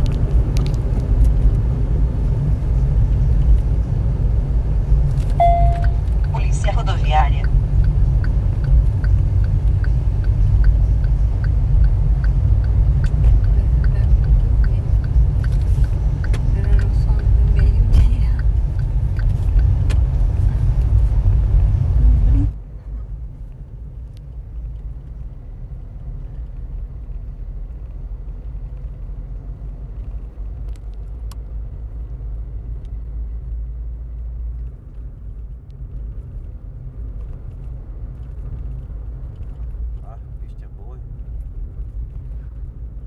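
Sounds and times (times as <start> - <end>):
car interior road rumble: 0.0 - 43.0.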